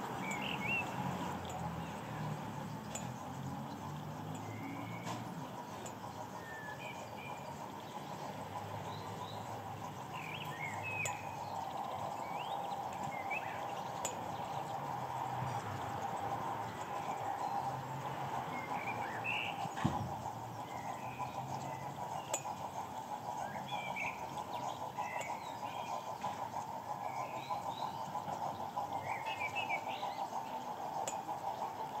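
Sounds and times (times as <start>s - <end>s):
small birds chirping: 0.0s - 32.0s
steady background hum: 0.0s - 32.0s.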